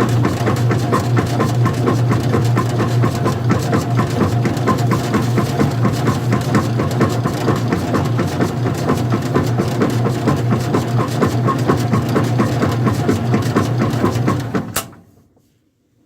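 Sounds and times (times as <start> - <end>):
washing machine motor hum: 0.0 - 14.9.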